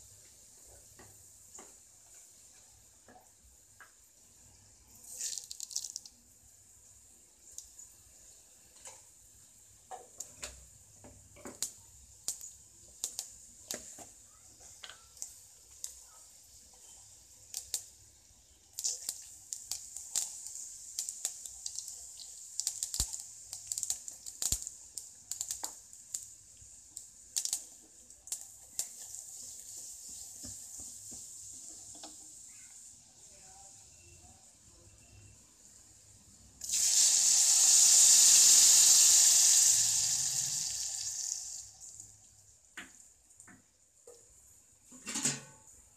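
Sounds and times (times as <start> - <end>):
hot oil sizzling with pops: 0.0 - 34.1, 35.1 - 45.7.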